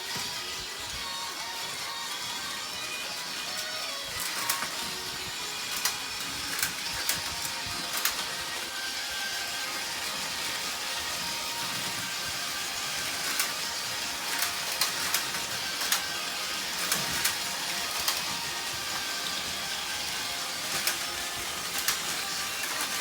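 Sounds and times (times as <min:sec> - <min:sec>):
faint background music: 0:00.0 - 0:23.0
toy track clicks and clacks: 0:00.0 - 0:23.0
toy train motors whirring: 0:00.0 - 0:23.0.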